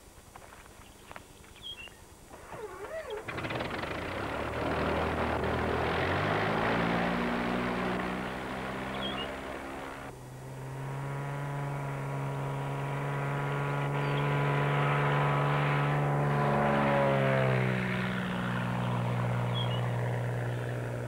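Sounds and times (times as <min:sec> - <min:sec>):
propeller plane engine passing: 0:02.2 - 0:21.0.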